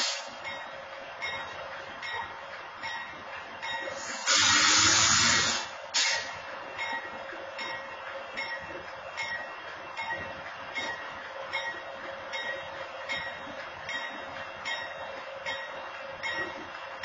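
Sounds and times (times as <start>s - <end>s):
railroad warning bell ringing: 0.0s - 4.5s, 6.0s - 16.7s
steady locomotive hum: 0.0s - 17.0s.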